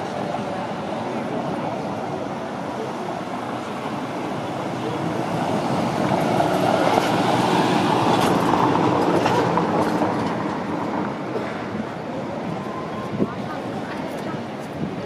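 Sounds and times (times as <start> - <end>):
tyres on paved street: 0.0 - 15.0
minibus driving past: 0.2 - 13.1.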